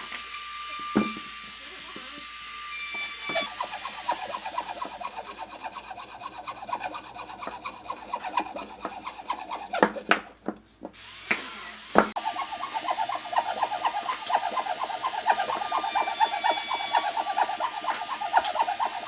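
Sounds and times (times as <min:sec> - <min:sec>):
hand tool rasping wood: 0:00.0 - 0:19.0.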